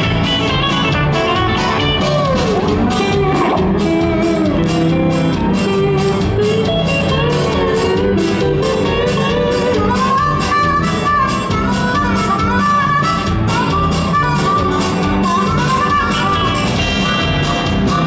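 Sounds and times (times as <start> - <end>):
instrumental music with beat: 0.0 - 18.0.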